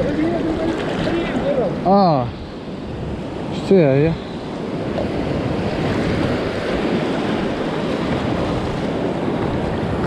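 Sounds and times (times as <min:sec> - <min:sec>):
surf washing over sand: 0:00.0 - 0:10.0
wind rumbling on microphone: 0:00.0 - 0:10.0.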